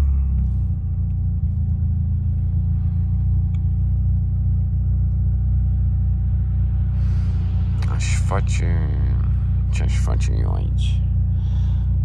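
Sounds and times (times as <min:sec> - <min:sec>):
car engine rumble: 0:00.0 - 0:12.0
faint whine: 0:00.0 - 0:12.0
road noise: 0:00.0 - 0:12.0.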